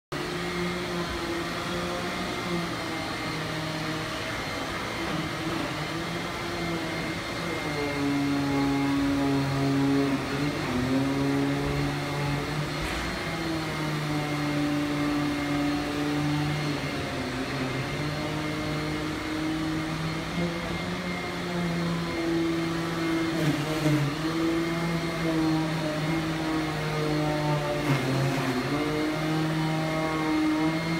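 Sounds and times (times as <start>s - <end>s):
vacuum cleaner running: 0.1s - 30.9s.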